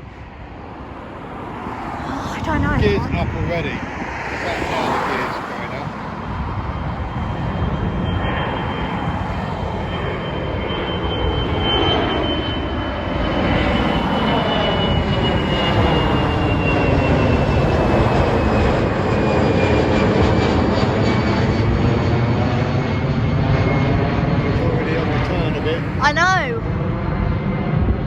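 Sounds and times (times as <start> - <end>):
high engine whine: 0.0 - 28.0
jet airliner engine noise: 0.0 - 28.0.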